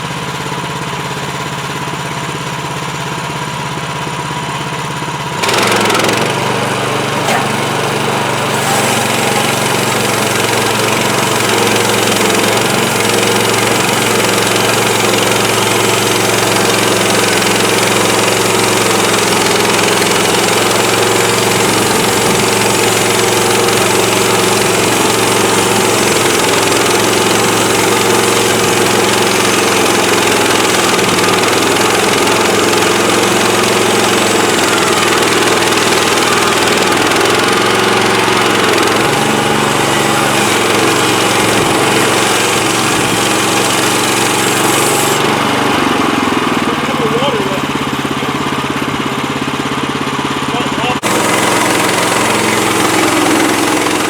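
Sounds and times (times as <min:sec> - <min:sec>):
sawmill petrol engine running: 0:00.0 - 0:54.0.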